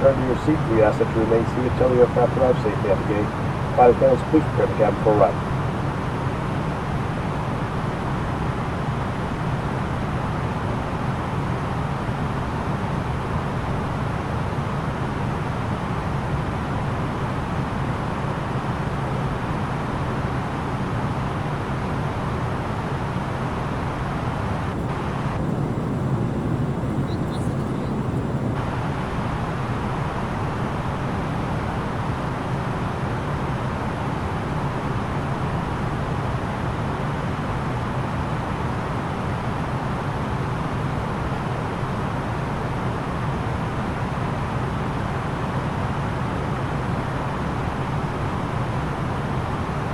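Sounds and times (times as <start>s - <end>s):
jet engines humming: 0.0s - 49.9s.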